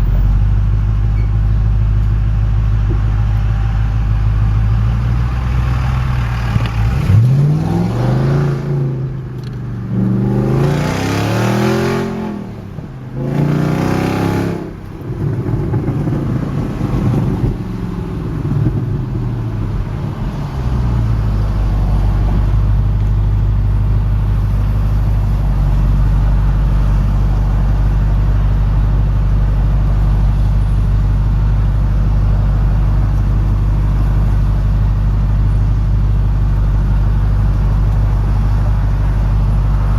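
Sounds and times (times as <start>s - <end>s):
car engine revving: 4.3s - 39.9s.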